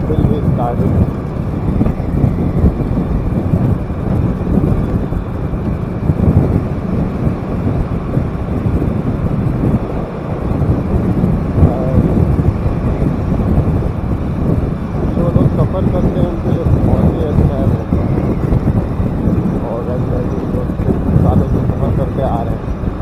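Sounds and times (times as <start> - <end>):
motorcycle engine rumble: 0.0 - 23.0.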